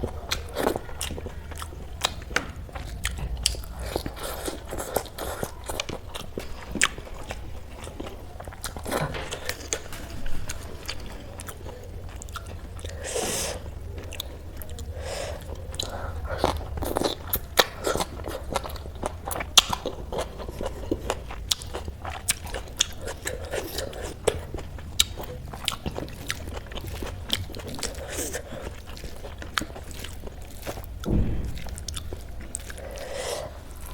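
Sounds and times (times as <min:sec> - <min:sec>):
chewing and crunching food: 0:00.0 - 0:33.9.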